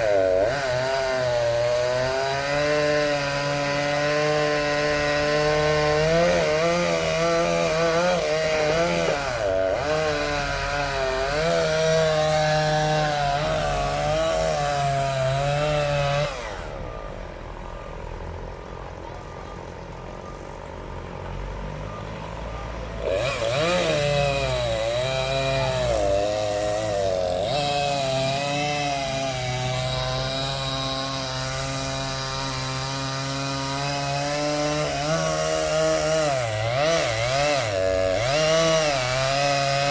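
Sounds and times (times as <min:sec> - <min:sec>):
chainsaw cutting wood: 0:00.0 - 0:16.9, 0:22.1 - 0:39.9.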